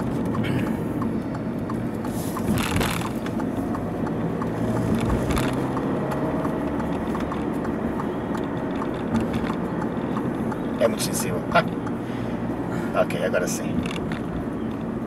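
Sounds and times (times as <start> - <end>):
car engine and road drone: 0.0 - 15.0
faint regular ticking: 0.0 - 15.0.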